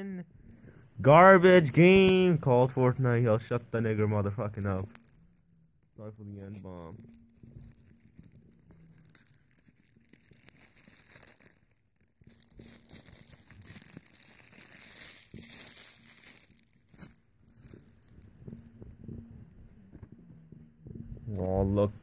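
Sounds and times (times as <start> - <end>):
plastic packaging crinkling: 0.4 - 19.2, 21.1 - 22.0.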